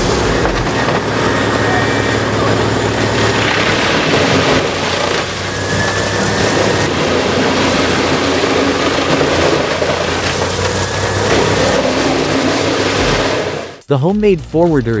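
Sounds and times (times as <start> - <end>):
heavy machinery engine drone: 0.0 - 13.8.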